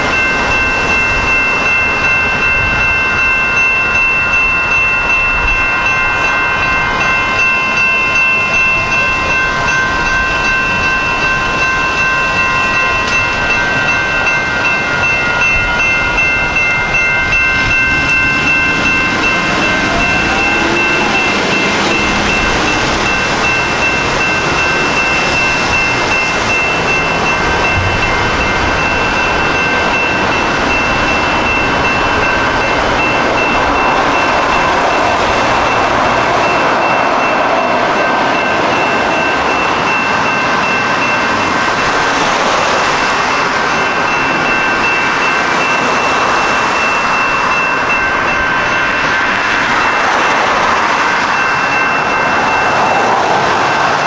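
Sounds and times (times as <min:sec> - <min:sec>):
crossing warning bells clanging: 0:00.0 - 0:54.0
train rumble: 0:00.0 - 0:54.0.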